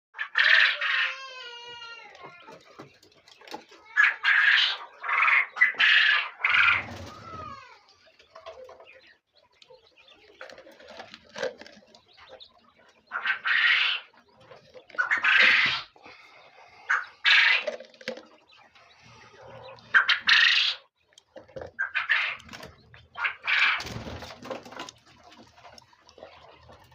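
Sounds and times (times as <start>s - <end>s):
birds calling: 0.2s - 26.9s.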